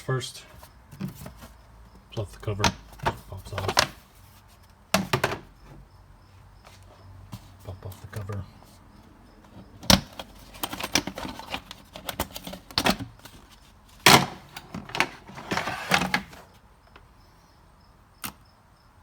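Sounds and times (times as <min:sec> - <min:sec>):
plastic clattering and scraping: 0:00.5 - 0:05.9, 0:06.6 - 0:17.1.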